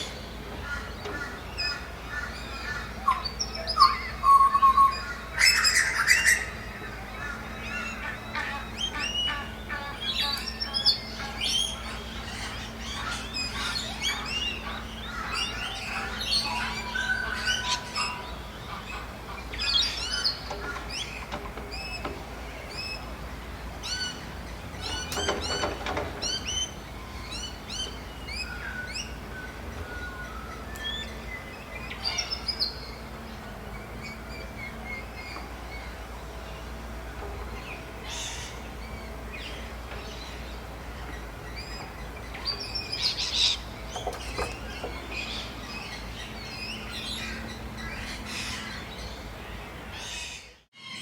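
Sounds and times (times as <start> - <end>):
songbirds chirping and singing: 0.0 - 51.0.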